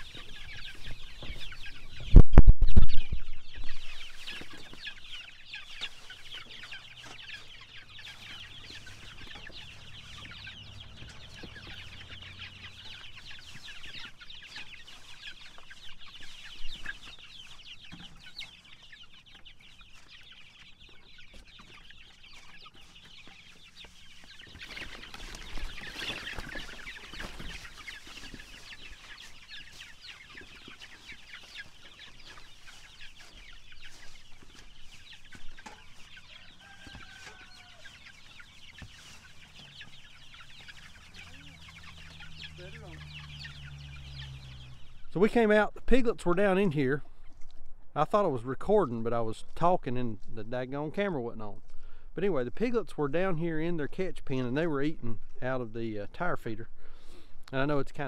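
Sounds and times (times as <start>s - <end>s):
young hens calling: 0.0s - 2.2s, 2.9s - 58.0s.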